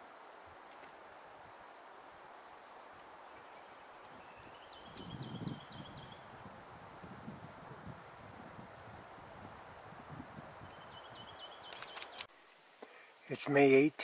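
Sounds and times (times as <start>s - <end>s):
songbird chirping: 0.8s - 9.5s, 10.1s - 14.0s.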